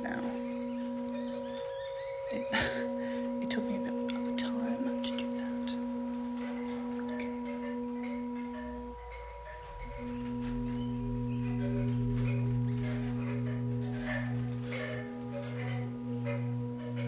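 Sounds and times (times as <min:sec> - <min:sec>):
meditation music sustained tones: 0:00.0 - 0:17.0.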